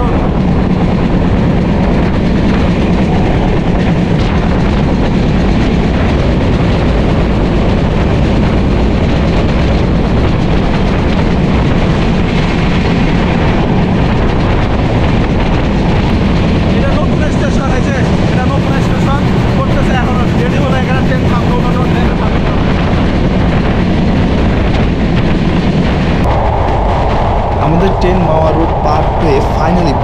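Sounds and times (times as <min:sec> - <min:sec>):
train wheels on rails: 0:00.0 - 0:26.3.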